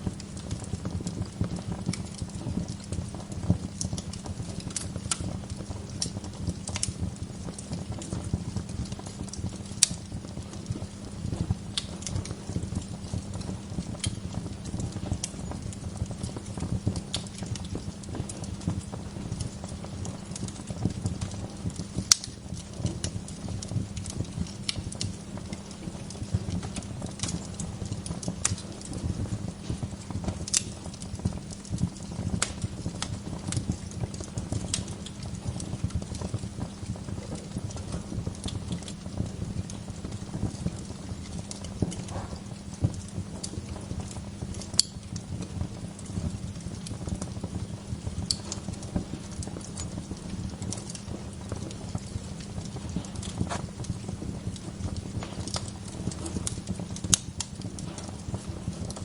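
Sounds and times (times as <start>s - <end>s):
burning wood popping and snapping: 0.0s - 59.0s
fire flames rumbling: 0.0s - 59.0s.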